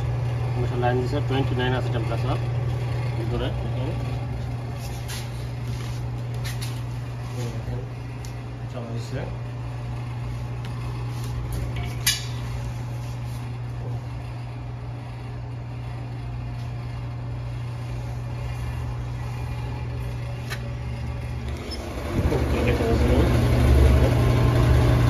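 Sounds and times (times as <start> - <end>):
refrigeration compressor humming: 0.0 - 25.0.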